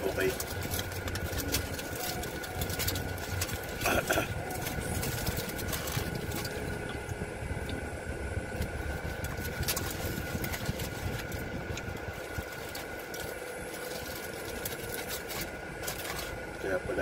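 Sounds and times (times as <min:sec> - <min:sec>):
car engine idling: 0:00.0 - 0:17.0
faint steady hum: 0:00.0 - 0:17.0.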